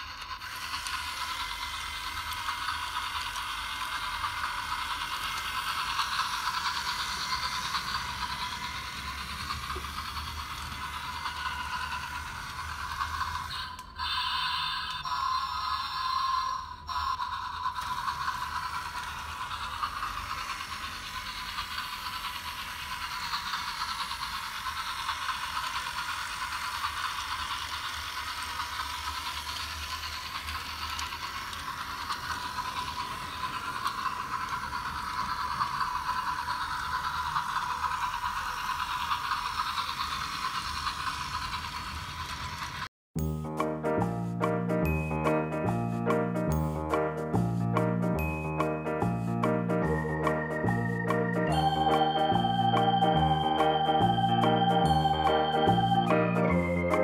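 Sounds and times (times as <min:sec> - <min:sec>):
toy train motor whirring: 0:00.0 - 0:42.9, 0:48.2 - 0:57.0.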